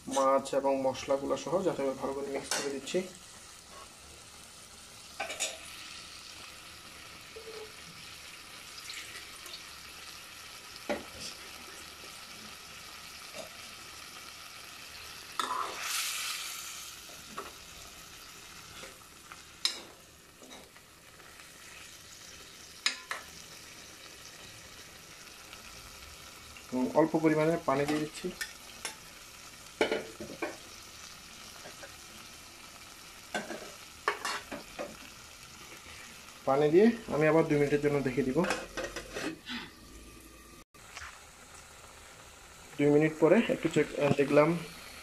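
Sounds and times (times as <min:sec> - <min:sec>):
curry sizzling in a pot: 0:00.0 - 0:45.0.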